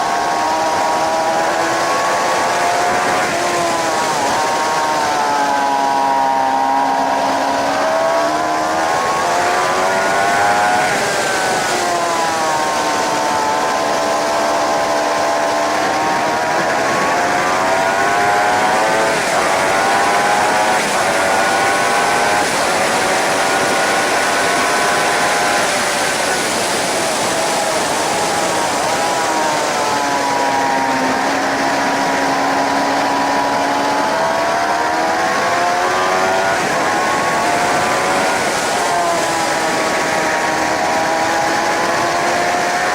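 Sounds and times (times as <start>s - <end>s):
heavy wind rush: 0.0s - 42.9s
motorcycle engine revving: 0.0s - 42.9s.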